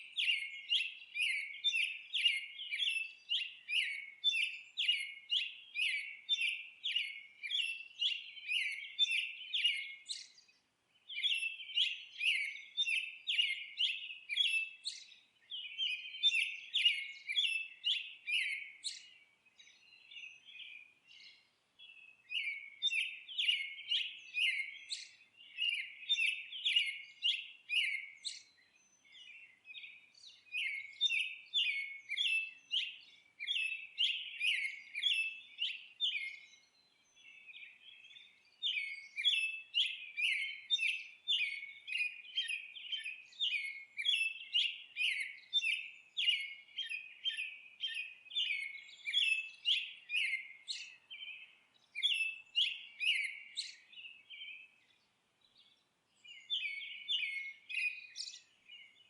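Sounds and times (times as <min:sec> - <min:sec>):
small songbird chirping: 0:00.0 - 0:59.0.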